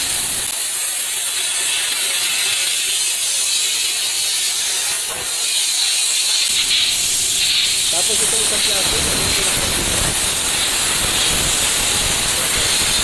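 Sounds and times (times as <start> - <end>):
high-pressure spray nozzle hissing: 0.0 - 13.0.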